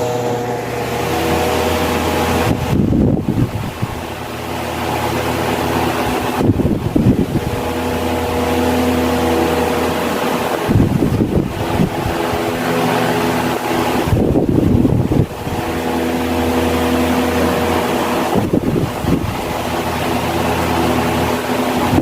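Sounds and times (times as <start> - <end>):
air gust buffeting microphone: 0.0 - 22.0
electric fan humming: 0.0 - 22.0.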